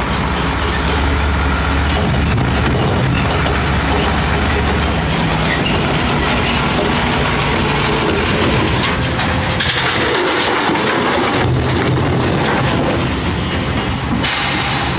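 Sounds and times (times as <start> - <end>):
excavator diesel engine under load: 0.0 - 14.9
excavator rattling and clanking: 0.0 - 14.9.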